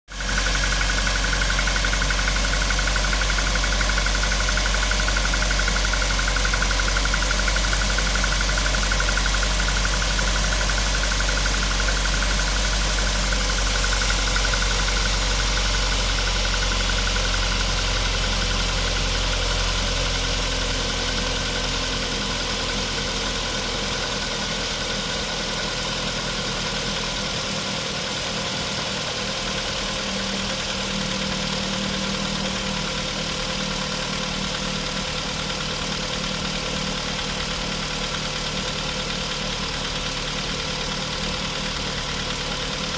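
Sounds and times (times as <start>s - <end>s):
car engine idling with knock: 0.1s - 42.9s.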